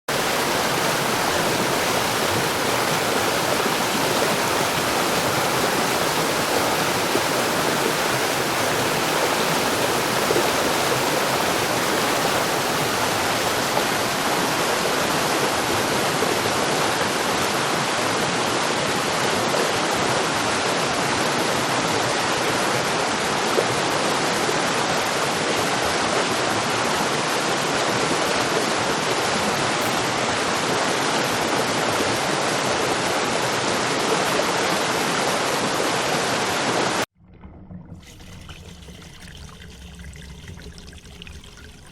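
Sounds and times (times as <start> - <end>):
water rushing: 0.1 - 41.9.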